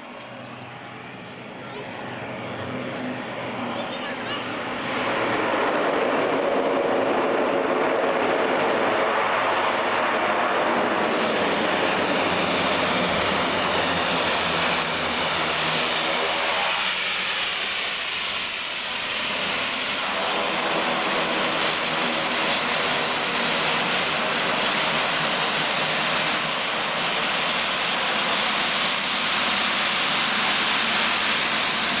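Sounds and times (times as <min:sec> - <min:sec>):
turboprop engines taxiing: 0:00.0 - 0:32.0.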